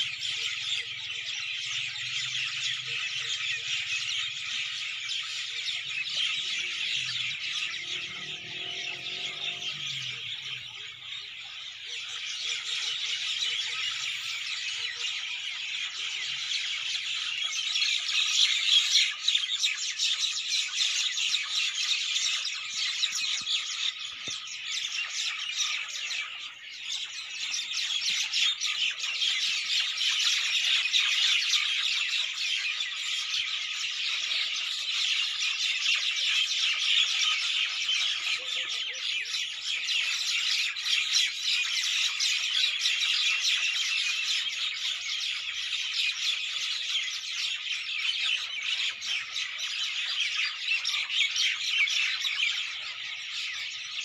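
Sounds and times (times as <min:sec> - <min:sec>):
birds chirping in chorus: 0:00.0 - 0:54.0.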